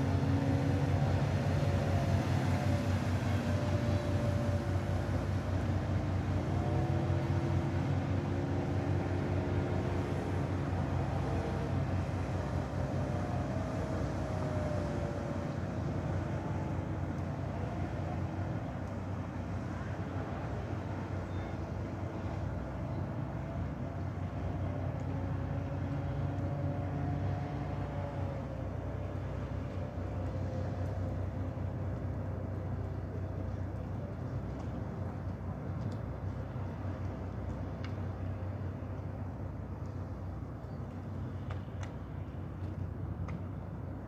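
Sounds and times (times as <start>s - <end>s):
boat engines droning: 0.0s - 44.0s.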